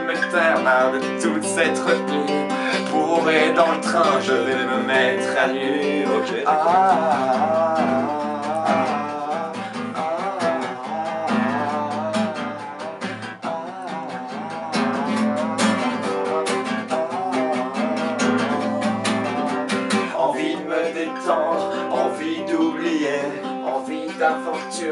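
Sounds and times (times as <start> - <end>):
acoustic guitar strumming: 0.0 - 24.9
man singing wordless melody: 0.0 - 24.9.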